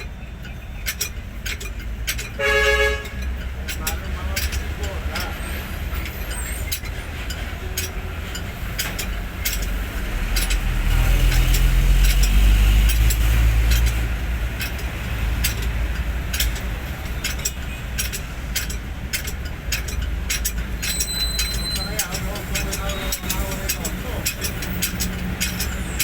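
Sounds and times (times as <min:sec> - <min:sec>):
sharp clicks: 0:00.0 - 0:02.4, 0:03.0 - 0:26.0
truck diesel engine running: 0:00.0 - 0:26.0.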